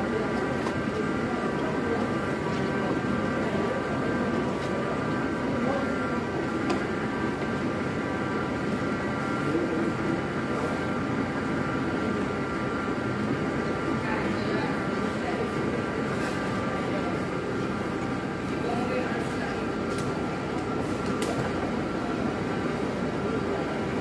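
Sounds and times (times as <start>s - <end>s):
steady multi-tone machine whine: 0.0s - 24.0s
tea rolling machine rumbling: 0.0s - 24.0s.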